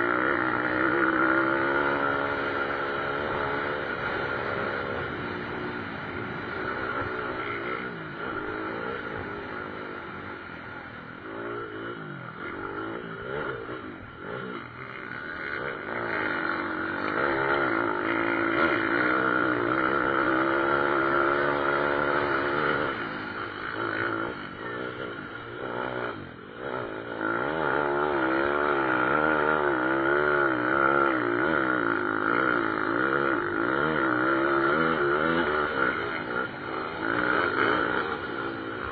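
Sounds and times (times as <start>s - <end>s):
motorbike engines racing past: 0.0s - 38.9s.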